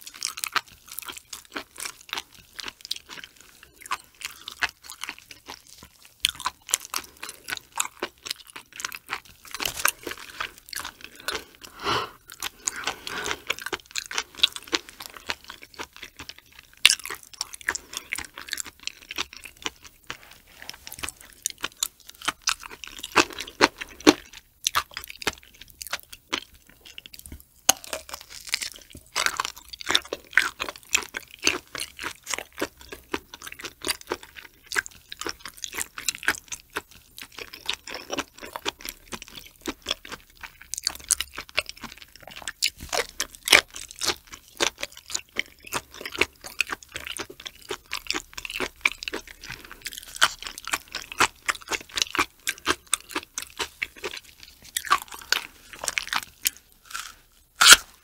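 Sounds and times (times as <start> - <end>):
wet chewing clicks and smacks: 0.0 - 11.7, 12.3 - 20.2, 20.8 - 58.0.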